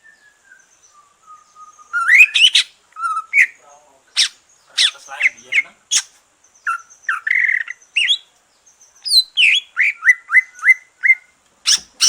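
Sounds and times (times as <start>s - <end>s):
bird singing whistled notes: 0.0s - 3.6s, 4.2s - 12.0s.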